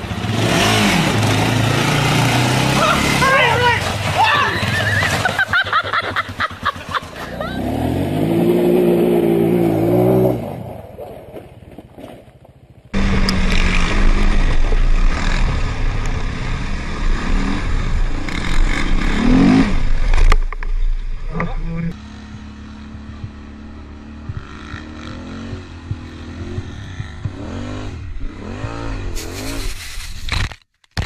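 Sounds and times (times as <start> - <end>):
rough engine running: 0.0 - 10.3, 12.6 - 29.6
atv engine revving: 0.0 - 10.8, 12.8 - 29.7.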